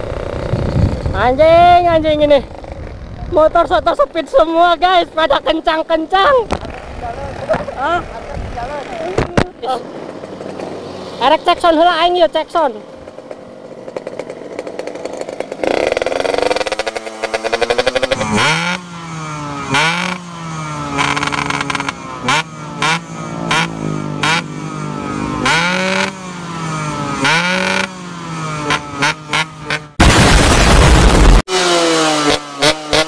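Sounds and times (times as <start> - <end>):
exhaust crackles: 0.0 - 33.0
two-stroke motorcycle engine revving: 0.0 - 33.0.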